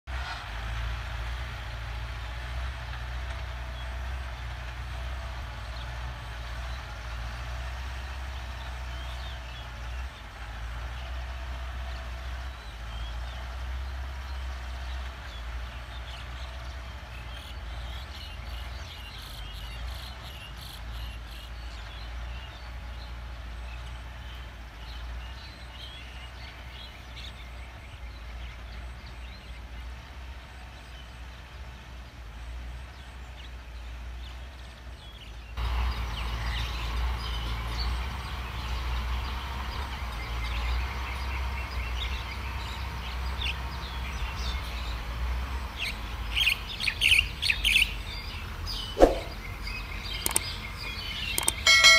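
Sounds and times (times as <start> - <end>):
distant tractor engine running: 0.1 - 51.9
birds chirping: 2.2 - 51.9.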